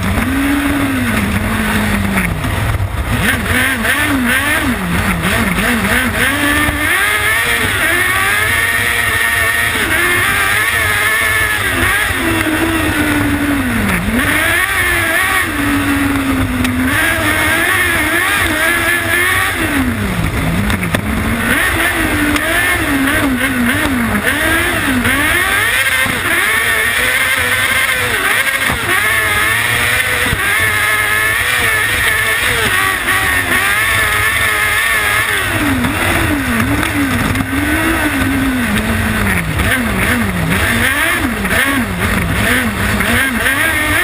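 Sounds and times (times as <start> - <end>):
motorcycle engine revving hard: 0.0 - 44.0.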